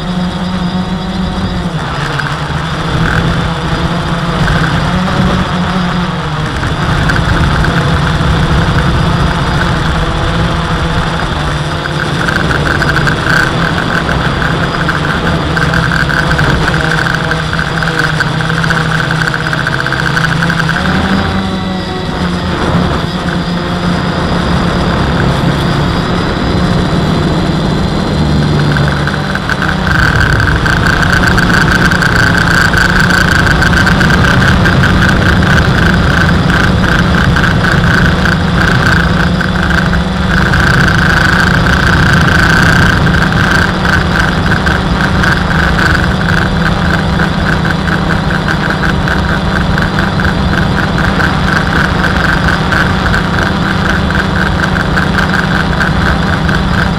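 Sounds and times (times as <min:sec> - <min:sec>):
drone propellers buzzing: 0:00.0 - 0:56.9.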